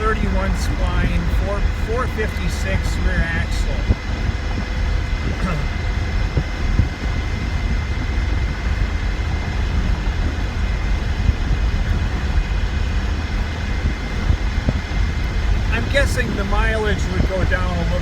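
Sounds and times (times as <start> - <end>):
thin high whine: 0.0 - 18.0
wind and road rumble: 0.0 - 18.0.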